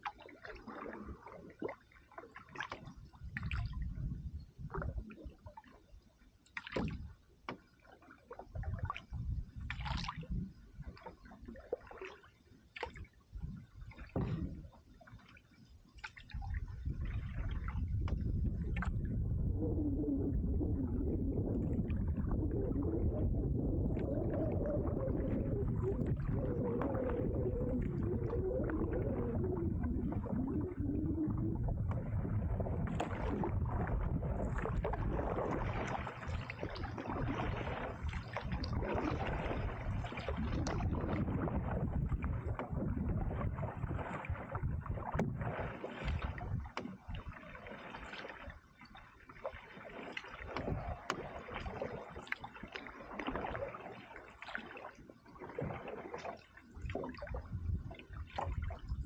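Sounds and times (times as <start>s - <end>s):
paddle splashing water: 0.0s - 59.0s.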